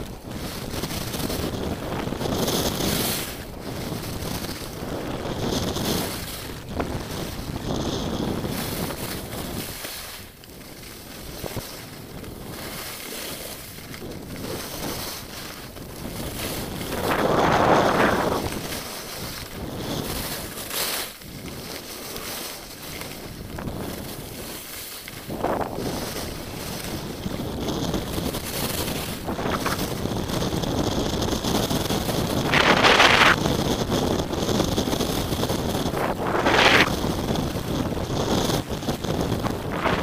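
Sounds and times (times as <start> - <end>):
skis scraping on snow: 0.0 - 40.0
wind rushing over microphone: 0.0 - 40.0.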